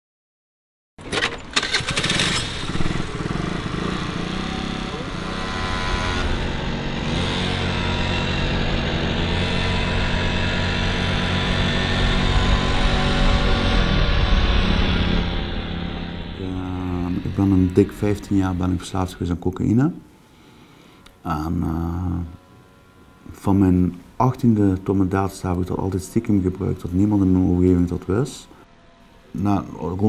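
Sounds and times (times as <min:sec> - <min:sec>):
scooter engine starting and running: 0:01.0 - 0:30.0.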